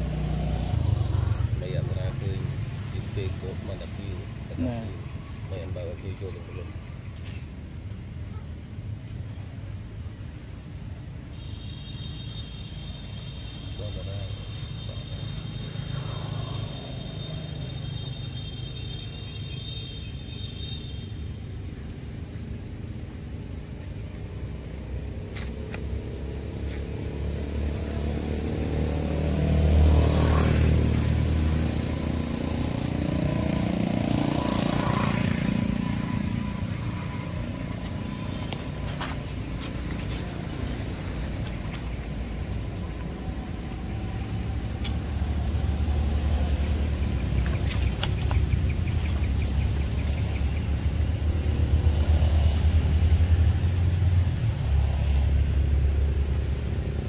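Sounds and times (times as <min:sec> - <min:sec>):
passing vehicles rumbling: 0:00.0 - 0:11.4, 0:12.7 - 0:20.2, 0:21.1 - 0:57.0.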